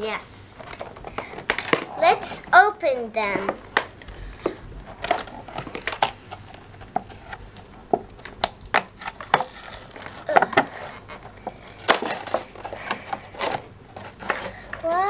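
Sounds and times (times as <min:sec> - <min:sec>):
plastic box crinkling: 0:00.6 - 0:02.2, 0:03.2 - 0:07.4, 0:08.1 - 0:15.0.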